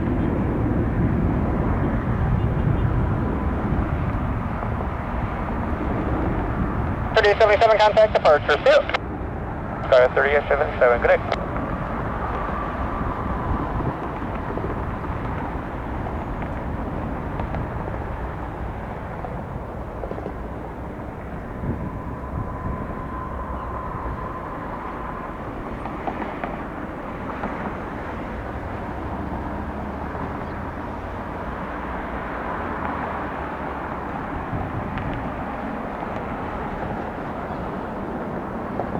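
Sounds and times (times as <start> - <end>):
jet engine and air rumble: 0.0 - 38.9.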